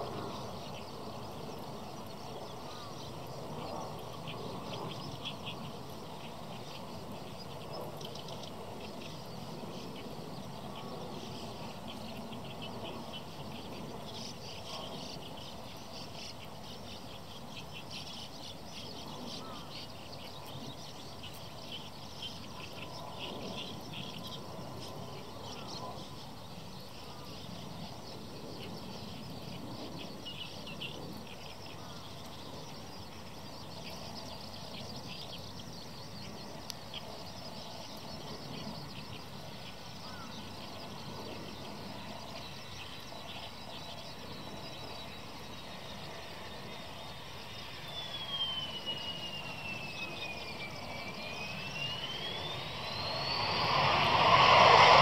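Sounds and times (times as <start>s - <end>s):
birds chirping: 0.0s - 55.0s
jet engine whine: 0.0s - 55.0s.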